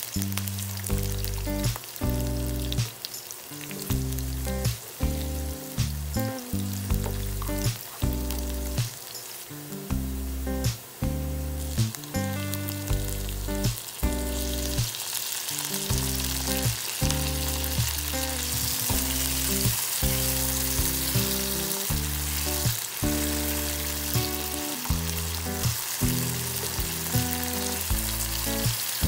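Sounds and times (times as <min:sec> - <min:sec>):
background music with held notes: 0:00.0 - 0:29.0
vegetables sizzling in oil: 0:00.0 - 0:29.0.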